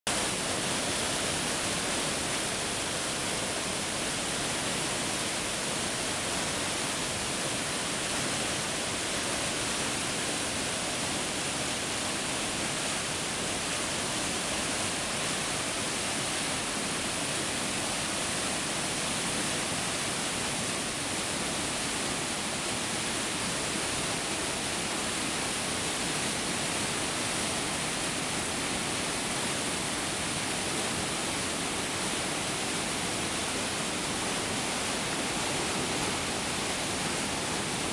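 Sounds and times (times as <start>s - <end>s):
water rushing over rocks: 0.1s - 37.9s.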